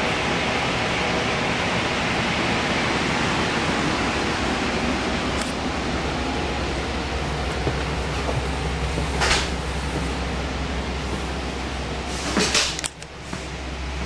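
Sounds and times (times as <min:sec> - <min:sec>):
train car rushing noise: 0:00.0 - 0:14.0.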